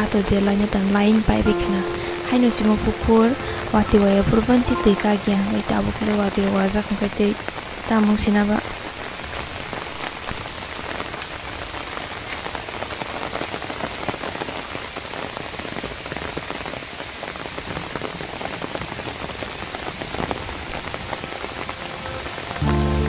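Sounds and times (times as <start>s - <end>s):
rain falling on leaves: 0.0s - 23.0s.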